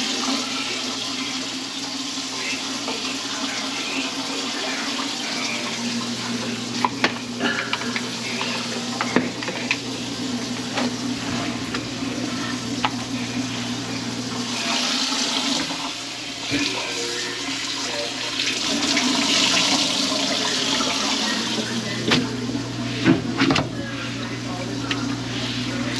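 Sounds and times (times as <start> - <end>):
water rushing in a sink: 0.0 - 25.9.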